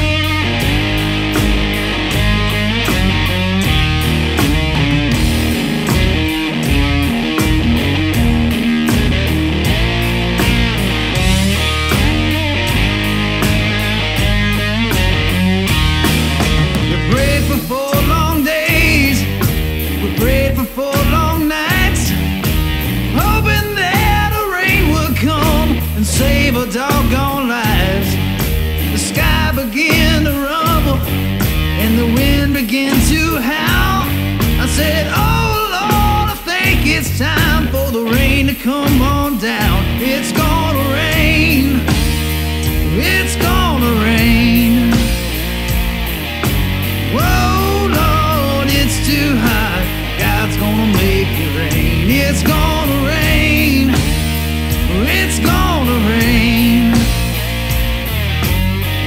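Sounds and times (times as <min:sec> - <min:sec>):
rock music: 0:00.0 - 0:59.0.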